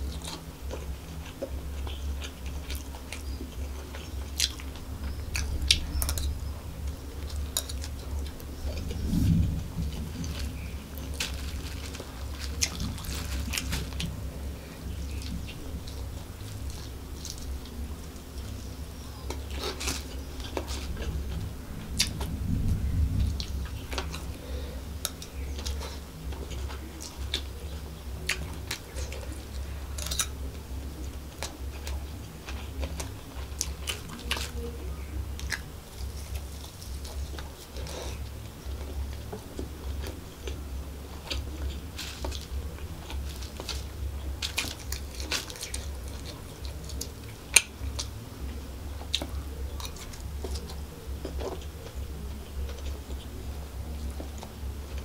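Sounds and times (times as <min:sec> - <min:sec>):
chewing and biting food: 0:00.0 - 0:55.0
steady low hum: 0:00.0 - 0:55.0.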